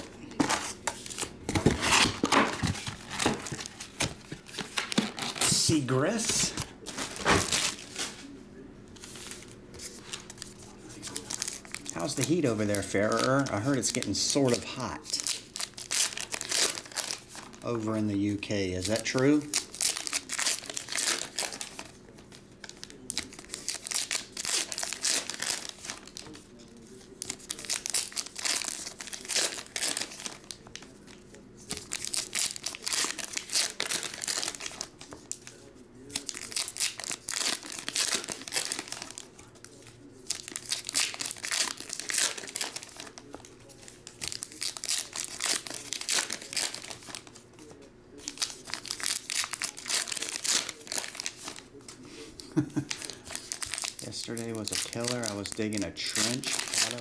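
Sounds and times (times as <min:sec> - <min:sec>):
plastic wrappers crinkling and tearing: 0:00.0 - 0:08.3, 0:09.0 - 0:57.0.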